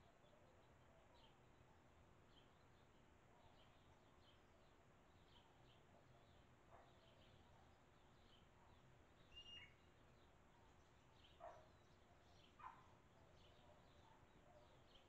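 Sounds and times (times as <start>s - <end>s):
low background noise: 0.0s - 15.0s
faint bird chirps: 2.4s - 15.0s.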